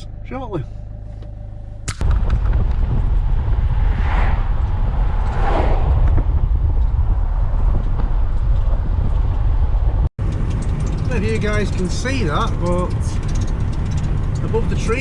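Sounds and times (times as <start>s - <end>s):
van engine and road rumble: 0.0s - 15.0s.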